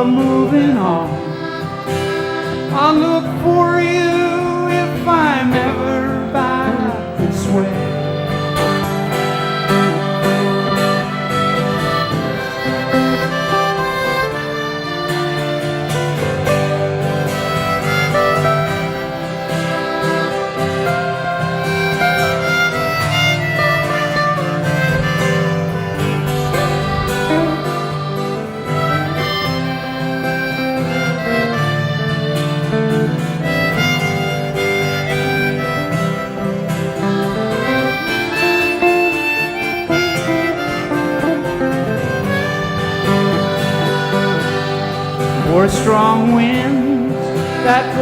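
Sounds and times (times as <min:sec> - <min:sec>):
acoustic guitar: 0:00.0 - 0:48.0
harmonica melody: 0:00.0 - 0:48.0.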